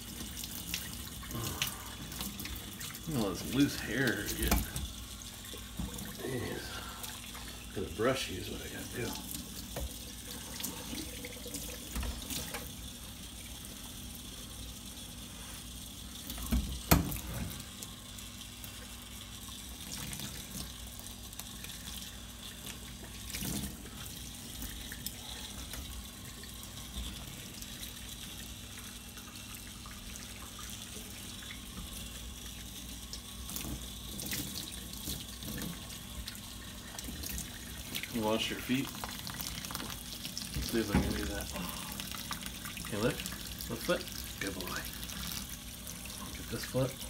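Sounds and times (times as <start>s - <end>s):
water spraying into sink: 0.0s - 14.0s, 15.2s - 47.0s.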